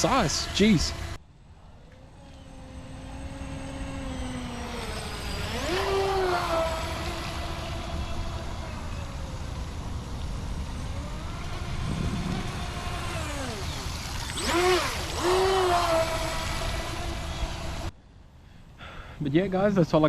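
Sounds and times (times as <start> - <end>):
electric motor whining: 0.0 - 17.9.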